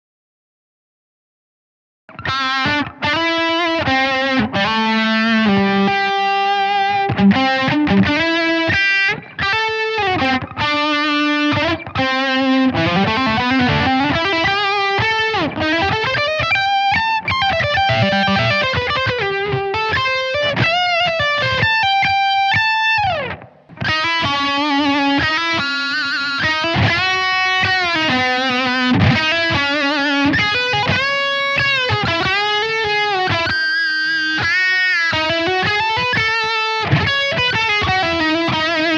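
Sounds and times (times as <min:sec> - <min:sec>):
distorted electric guitar riffs: 0:02.1 - 0:38.9.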